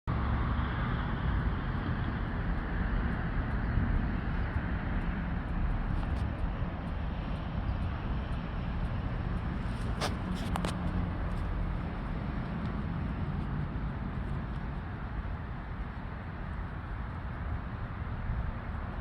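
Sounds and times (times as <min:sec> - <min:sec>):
engine rumble: 0:00.1 - 0:19.0.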